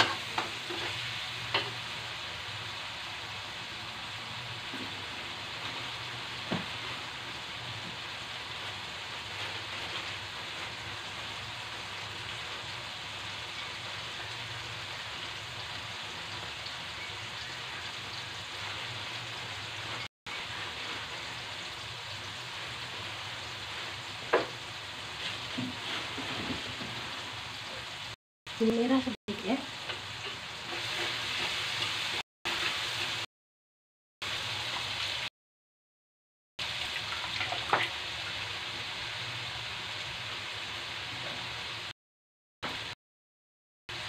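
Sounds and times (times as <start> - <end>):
vegetables sizzling in wok: 0.0 - 33.3, 34.2 - 35.3, 36.6 - 41.9, 42.6 - 43.0.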